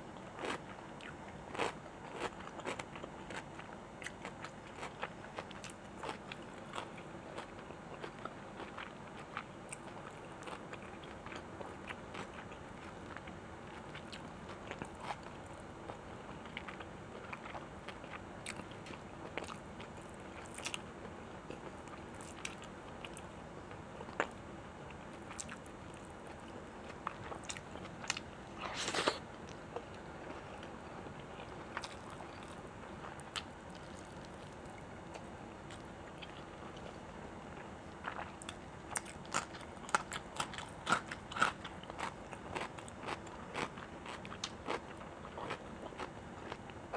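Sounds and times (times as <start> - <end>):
chewing and biting food: 0.4 - 20.8, 25.3 - 37.0, 38.0 - 46.7.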